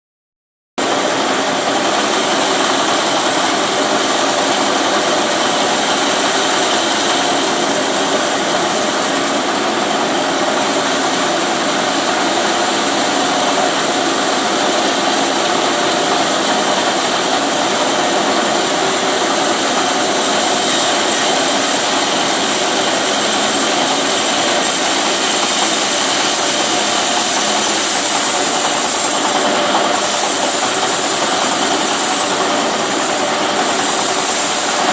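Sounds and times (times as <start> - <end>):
petrol saw droning: 0.8 - 34.9.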